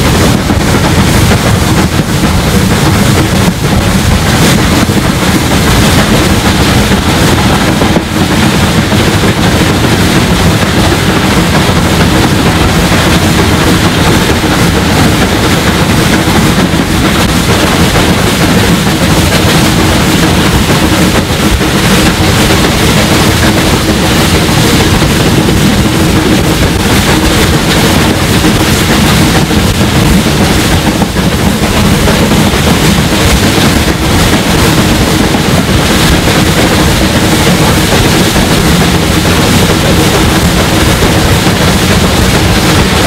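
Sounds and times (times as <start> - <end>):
steam locomotive exhaust: 0.0 - 43.0.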